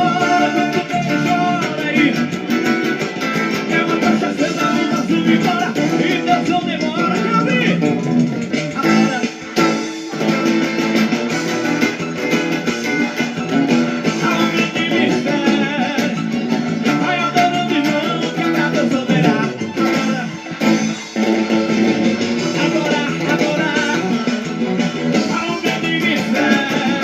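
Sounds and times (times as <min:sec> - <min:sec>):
band music: 0:00.0 - 0:27.0
electric guitar: 0:00.0 - 0:27.0.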